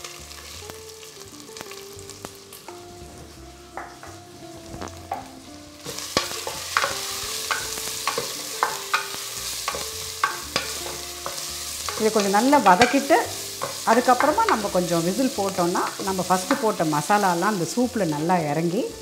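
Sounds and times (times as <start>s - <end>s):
onions frying in hot oil: 0.0s - 19.0s.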